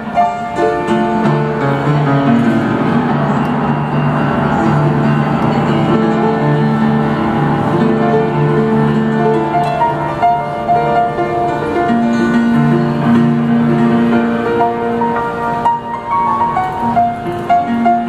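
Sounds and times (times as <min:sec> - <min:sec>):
upright piano playing: 0:00.0 - 0:18.0.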